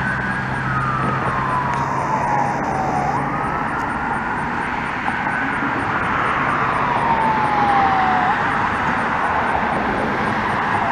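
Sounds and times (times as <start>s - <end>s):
fire engine siren wailing: 0.0s - 10.9s
traffic noise: 0.0s - 10.9s.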